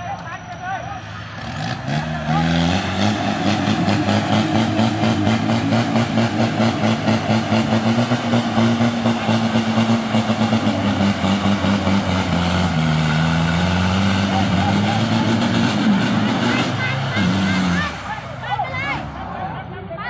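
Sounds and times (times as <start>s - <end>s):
race vehicle engine running: 0.0s - 20.0s.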